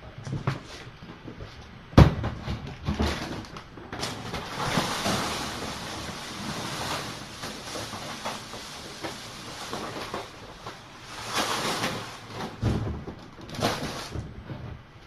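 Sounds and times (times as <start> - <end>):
rustling and scraping: 0.2 - 15.0.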